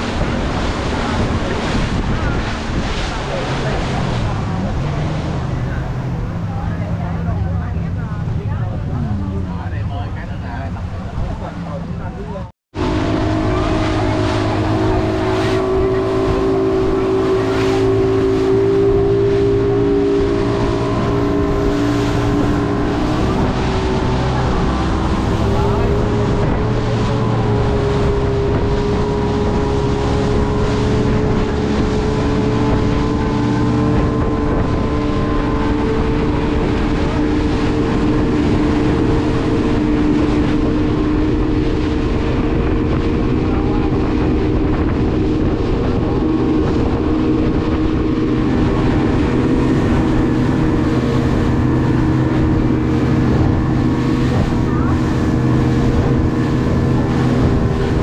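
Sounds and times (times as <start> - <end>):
speedboat engine: 0.0 - 58.0
water rushing off hull: 0.0 - 58.0.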